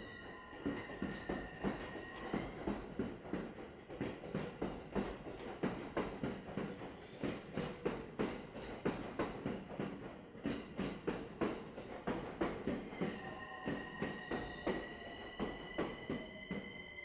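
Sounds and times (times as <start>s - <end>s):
train wheels clacking over rail joints: 0.6s - 16.6s.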